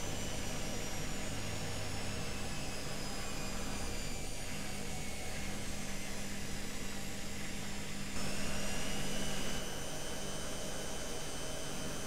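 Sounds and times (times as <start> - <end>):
washing machine motor hum and whine: 0.0 - 12.0.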